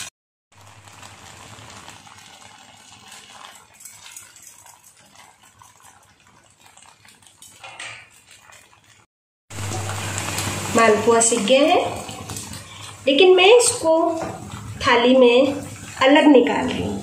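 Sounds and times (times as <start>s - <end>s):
food sizzling in hot ghee: 0.0s - 17.0s.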